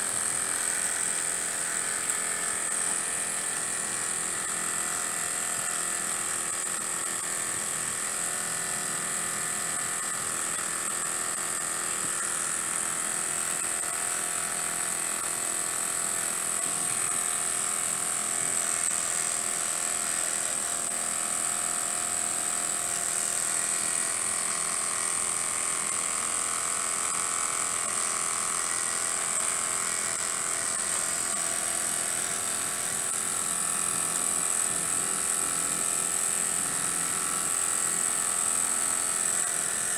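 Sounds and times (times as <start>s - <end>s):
flywheel whirring: 0.0s - 39.9s.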